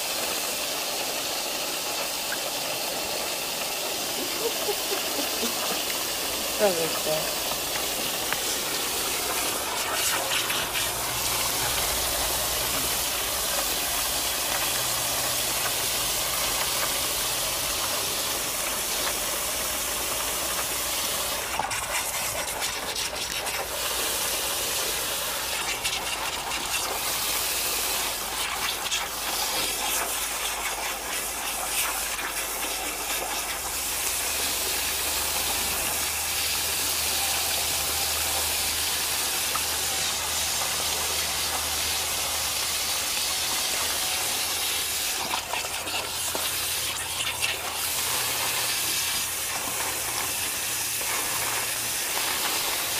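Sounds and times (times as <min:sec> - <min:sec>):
hose spray hitting water: 0:00.0 - 0:52.9.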